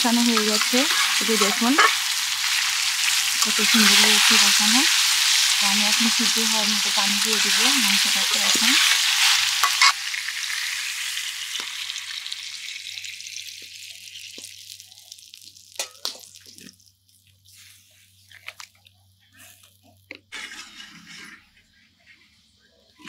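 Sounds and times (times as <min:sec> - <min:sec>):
beef sizzling in a pot: 0:00.0 - 0:21.4.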